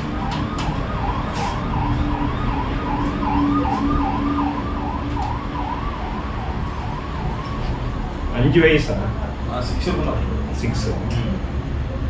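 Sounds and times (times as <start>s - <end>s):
emergency vehicle siren wailing: 0.0s - 12.0s
steady lower tone: 0.0s - 12.0s.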